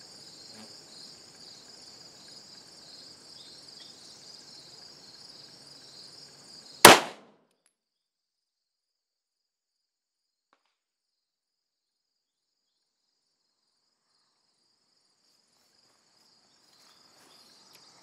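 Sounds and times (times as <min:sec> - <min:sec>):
faint cricket chirping: 0:00.0 - 0:07.0, 0:07.6 - 0:18.0.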